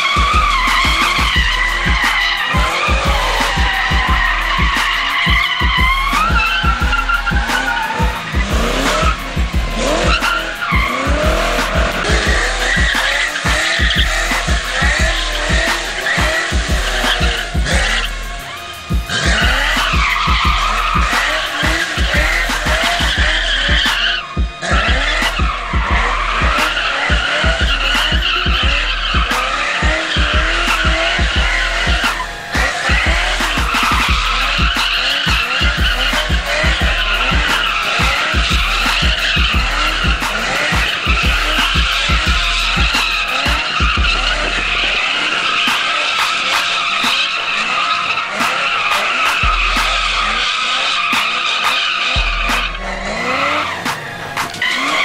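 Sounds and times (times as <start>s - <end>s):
car engine revving: 0.0s - 55.0s
tires squealing: 0.0s - 55.0s.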